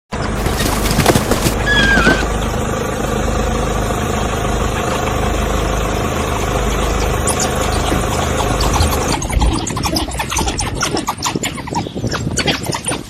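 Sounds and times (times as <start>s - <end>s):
low engine rumble: 0.1s - 11.0s.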